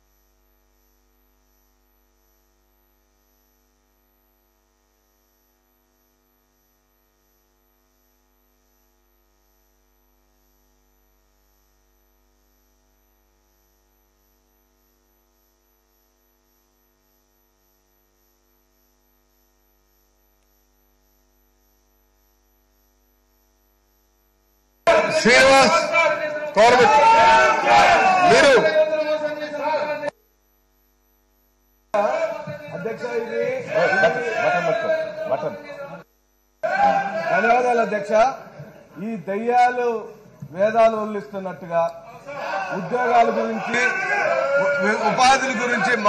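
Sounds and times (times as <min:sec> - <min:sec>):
faint electrical hum: 0:00.0 - 0:46.0.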